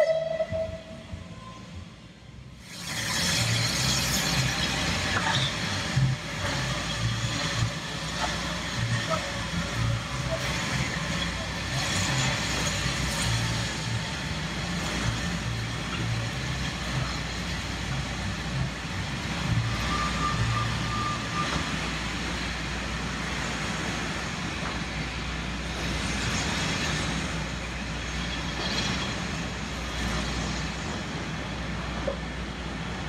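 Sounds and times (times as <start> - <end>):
coaches rolling over track: 0.0 - 33.0
steam exhaust bursts: 0.0 - 33.0
steam locomotive working: 0.0 - 33.0.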